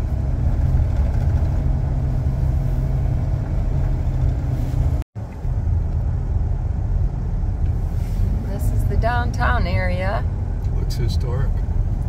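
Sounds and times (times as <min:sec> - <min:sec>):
road and engine rumble in truck cab: 0:00.0 - 0:12.0.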